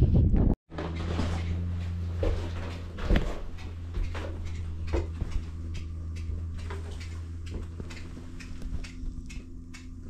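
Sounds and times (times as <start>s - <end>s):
low machine hum: 0.7s - 10.0s.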